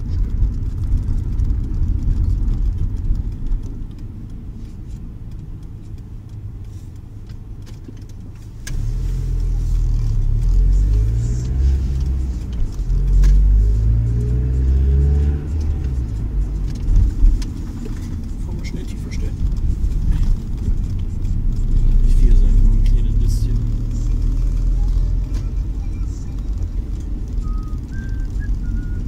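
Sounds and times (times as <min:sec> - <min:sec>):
car engine accelerating: 0:00.0 - 0:29.0
road rumble inside car: 0:00.0 - 0:29.0.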